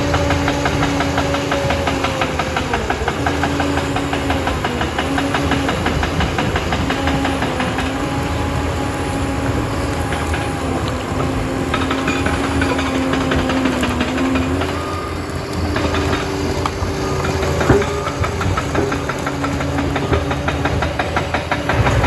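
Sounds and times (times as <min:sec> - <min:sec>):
dozer diesel engine under load: 0:00.0 - 0:22.0
steel tracks clanking: 0:00.0 - 0:22.0.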